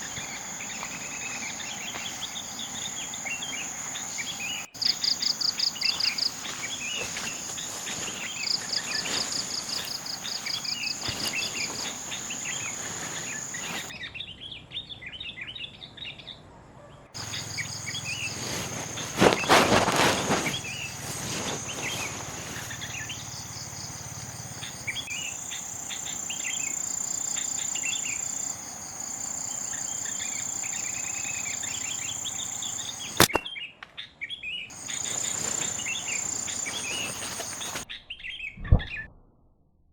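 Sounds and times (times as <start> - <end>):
insect drone with trills: 0.0 - 13.9, 17.2 - 33.4, 34.7 - 37.9
birds chirping: 0.0 - 14.5, 17.2 - 33.7, 34.4 - 38.4.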